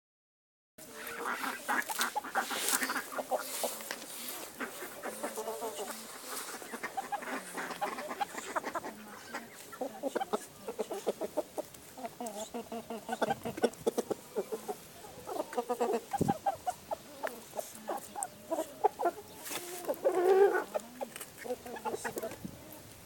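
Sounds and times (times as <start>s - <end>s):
chickens clucking: 0.8s - 23.0s.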